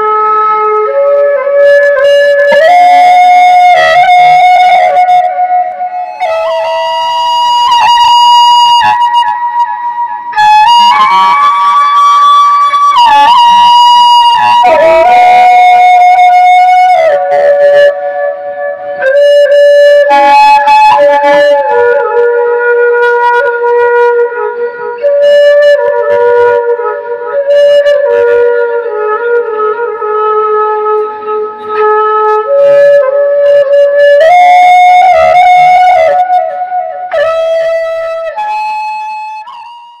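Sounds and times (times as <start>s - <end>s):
folk dance music with flute: 0.0s - 40.0s.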